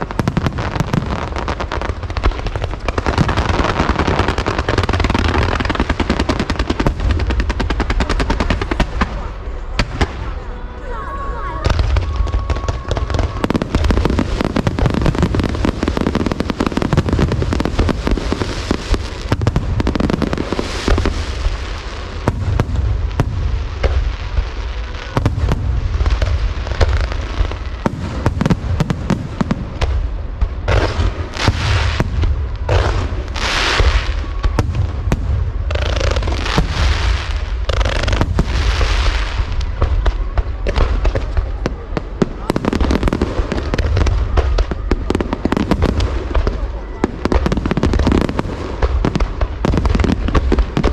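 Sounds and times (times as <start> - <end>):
hissing firework bursts: 0.0 - 50.9.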